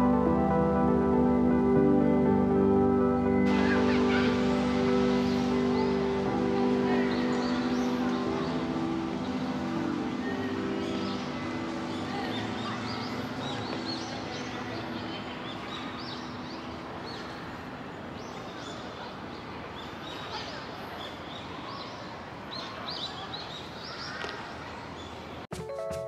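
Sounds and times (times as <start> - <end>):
background hiss: 0.0 - 25.5
small birds chirping: 3.6 - 25.4.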